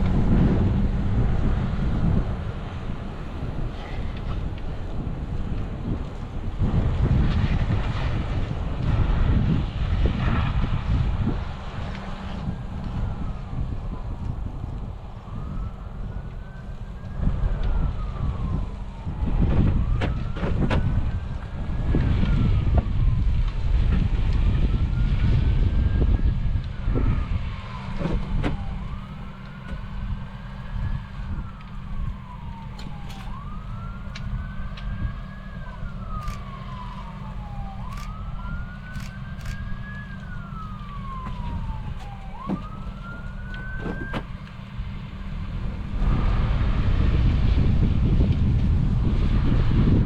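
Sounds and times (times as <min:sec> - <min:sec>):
emergency siren wailing: 0:00.0 - 0:50.0
low rumble: 0:00.0 - 0:50.0.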